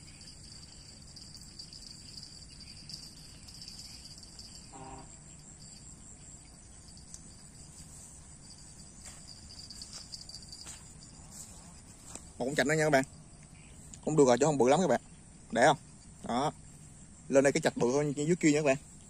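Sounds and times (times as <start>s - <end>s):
insects chorus: 0.0s - 19.0s.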